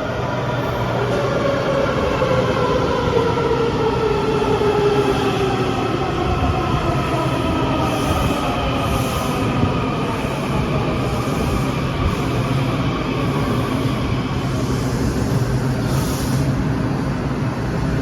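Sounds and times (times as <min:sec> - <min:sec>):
metro train rumble: 0:00.0 - 0:18.0.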